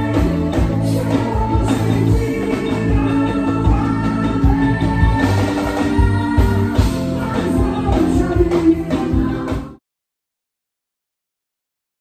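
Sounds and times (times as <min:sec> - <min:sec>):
drums: 0:00.0 - 0:09.8
electric guitar: 0:00.0 - 0:09.8.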